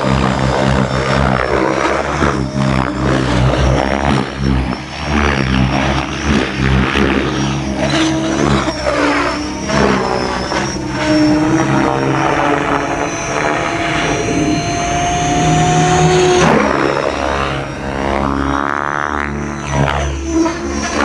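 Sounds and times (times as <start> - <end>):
electric motor whining: 0.0 - 21.0
helicopter rotor blade noise: 0.0 - 21.0.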